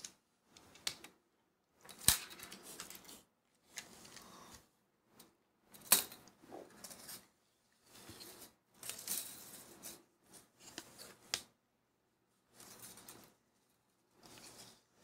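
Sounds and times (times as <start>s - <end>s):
cord rubbing and rustling: 1.9s - 11.5s, 12.5s - 15.0s.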